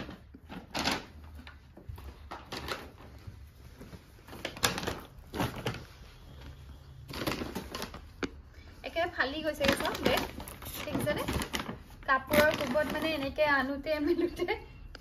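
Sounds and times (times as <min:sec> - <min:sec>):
clothes and packaging rustling: 0:00.0 - 0:15.0.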